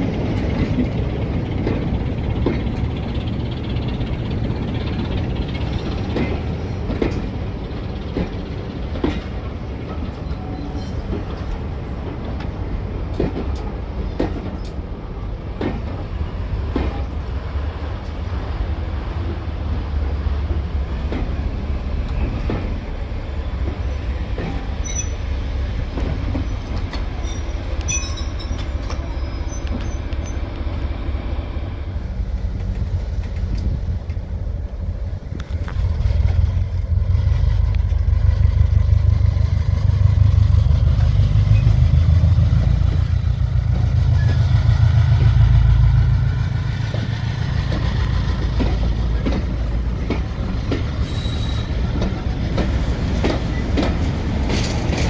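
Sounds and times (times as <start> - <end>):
diesel locomotive engine: 0.0 - 55.0
train coaches rumbling over rails: 0.0 - 55.0.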